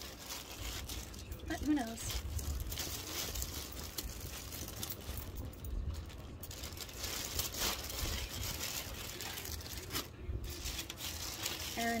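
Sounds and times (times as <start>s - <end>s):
clothing and packaging rustling: 0.0s - 12.0s
steady low hum: 0.0s - 12.0s.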